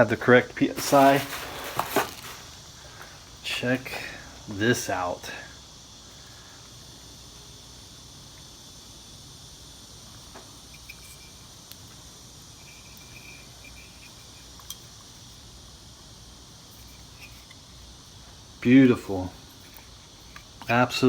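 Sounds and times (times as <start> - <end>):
high-pitched chirring hiss: 0.0 - 21.0.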